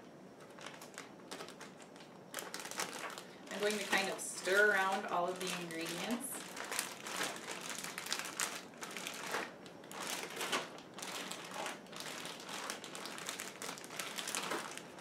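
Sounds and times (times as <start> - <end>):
plastic bag crinkling: 0.4 - 15.0.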